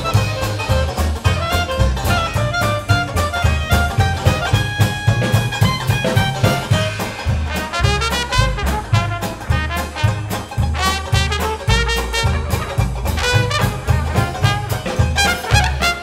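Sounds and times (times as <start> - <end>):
clarinet lead: 0.0 - 16.0
jazz band playing swing: 0.0 - 16.0
trumpet lead: 0.0 - 16.0.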